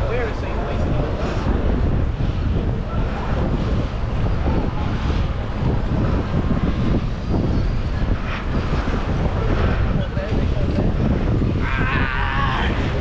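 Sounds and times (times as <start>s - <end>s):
moped engine and road noise: 0.0s - 11.6s
wind buffeting microphone: 0.0s - 13.0s.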